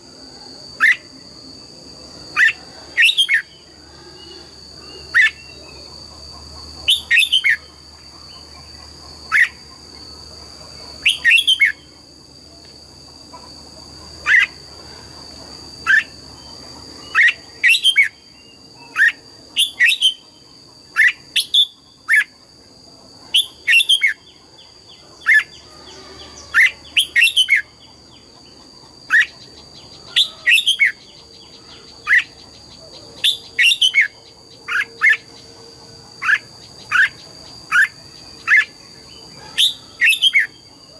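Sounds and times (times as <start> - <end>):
bird chirping: 2.3 - 12.0, 15.2 - 22.4, 23.2 - 40.9.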